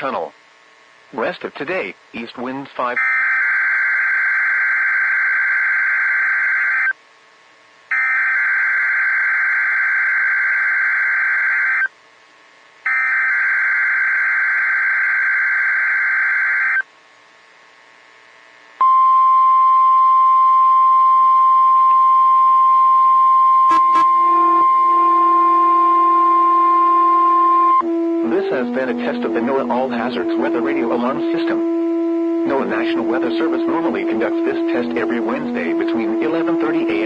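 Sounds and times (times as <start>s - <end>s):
steady warning alarm tone: 3.0s - 7.0s, 7.9s - 11.9s, 12.8s - 16.8s, 18.8s - 37.0s.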